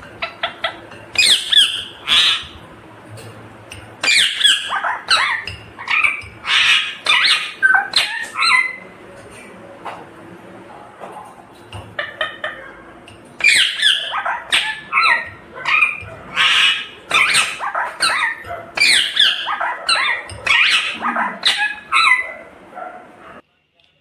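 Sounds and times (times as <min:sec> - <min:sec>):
parrot chirping and squawking: 0:00.0 - 0:02.7, 0:03.8 - 0:09.0, 0:11.6 - 0:23.4.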